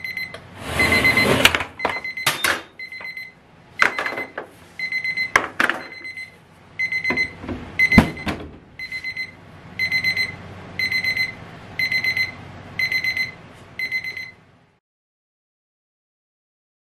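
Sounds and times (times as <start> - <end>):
timer alarm beeping: 0.0 - 14.4.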